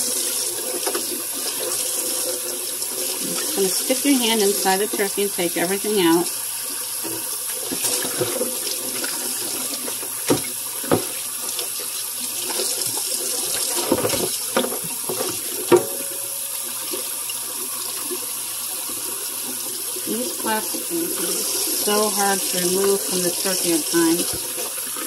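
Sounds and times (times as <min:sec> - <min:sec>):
faucet running into metal sink: 0:00.0 - 0:25.0.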